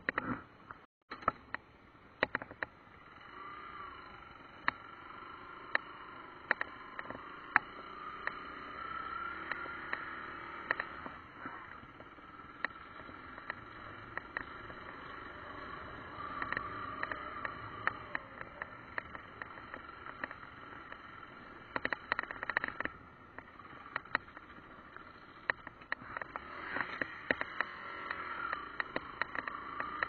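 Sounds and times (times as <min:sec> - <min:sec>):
sharp clicks and knocks: 0:00.0 - 0:02.8, 0:04.4 - 0:04.9, 0:05.6 - 0:08.6, 0:09.4 - 0:30.0
motorcycle engine: 0:02.2 - 0:30.0.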